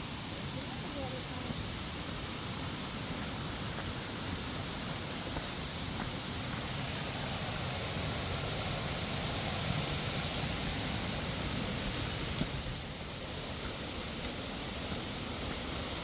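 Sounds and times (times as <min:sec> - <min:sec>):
creek water rushing over rocks: 0:00.0 - 0:16.0.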